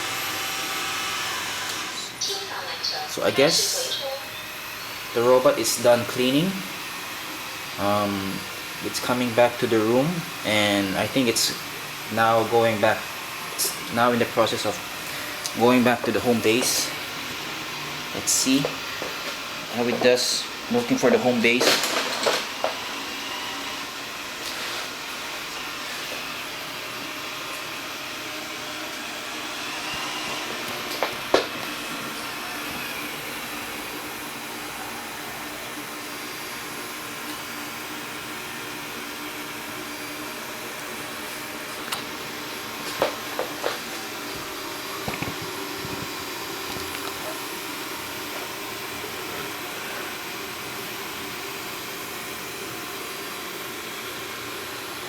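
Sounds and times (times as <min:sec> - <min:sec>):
robot vacuum running: 0:00.0 - 0:55.0.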